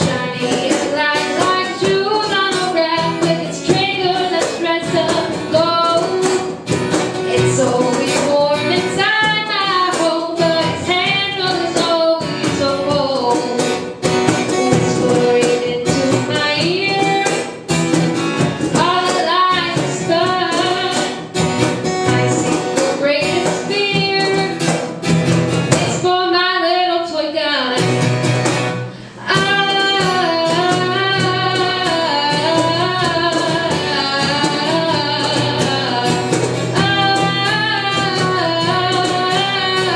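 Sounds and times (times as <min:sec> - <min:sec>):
young woman singing: 0:00.0 - 0:17.7, 0:18.4 - 0:24.9, 0:25.6 - 0:28.0, 0:29.1 - 0:39.9
strummed acoustic guitar: 0:00.0 - 0:39.9.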